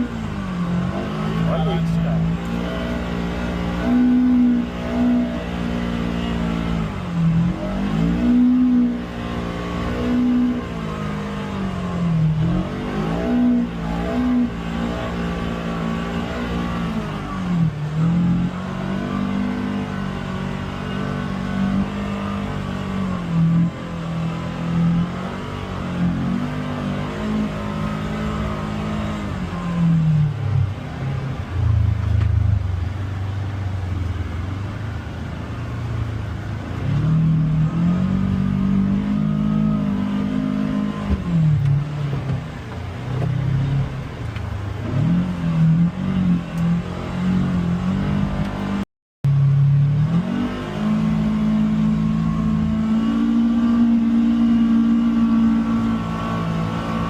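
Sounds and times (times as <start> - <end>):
utility vehicle engine revving: 0.0 - 57.0.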